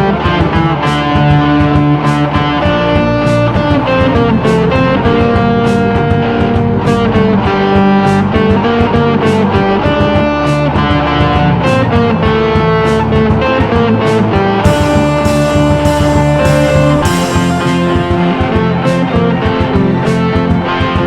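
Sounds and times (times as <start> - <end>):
guitar-led instrumental music: 0.0 - 21.0.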